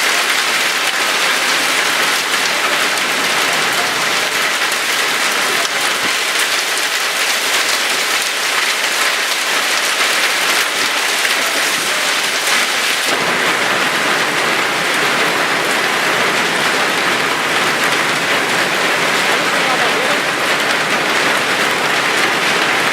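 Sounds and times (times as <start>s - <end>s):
hail and heavy rain clattering: 0.0s - 22.9s.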